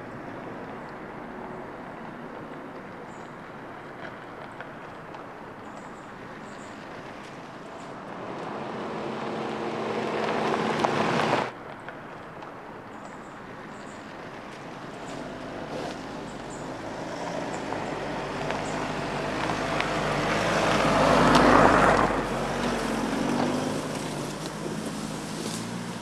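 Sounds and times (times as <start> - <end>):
tyres on dirt: 0.0 - 26.0.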